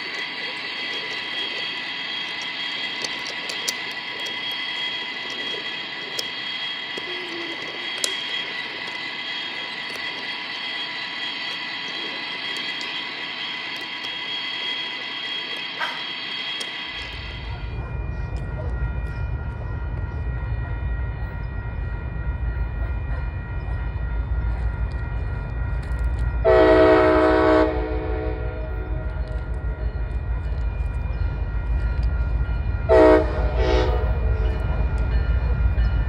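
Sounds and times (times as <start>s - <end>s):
toy train rolling on wooden track: 0.0s - 17.6s, 24.3s - 36.0s.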